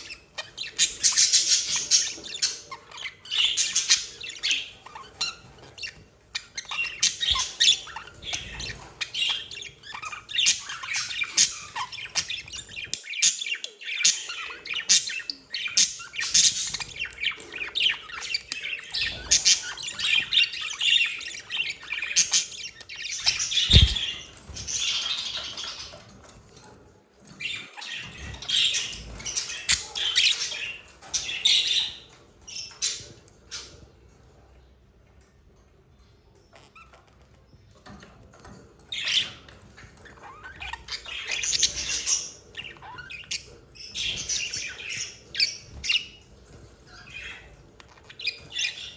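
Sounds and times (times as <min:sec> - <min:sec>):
budgerigars chirping: 0:00.0 - 0:26.0, 0:27.4 - 0:33.8, 0:38.9 - 0:48.9.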